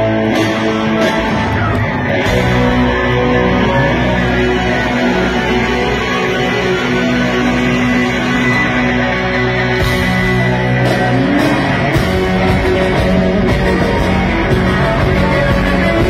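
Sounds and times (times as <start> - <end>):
electric guitar lead: 0.0 - 16.0
live rock band: 0.0 - 16.0.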